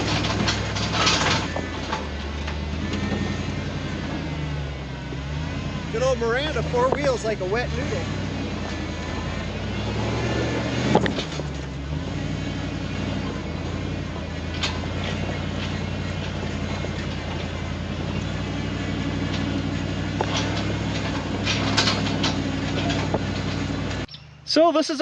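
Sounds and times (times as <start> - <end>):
body and suspension rattles: 0.0 - 24.6
truck engine running: 0.0 - 25.0.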